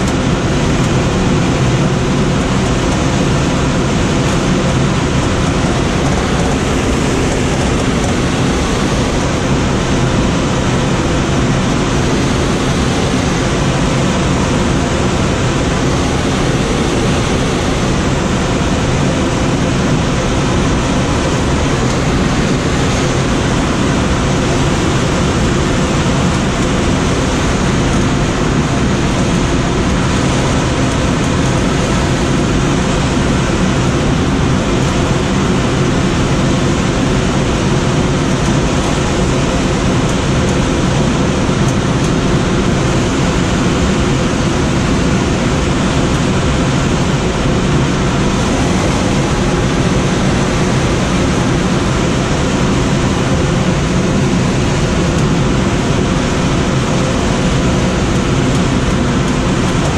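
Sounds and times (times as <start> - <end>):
airflow rushing over glider: 0.0 - 59.9.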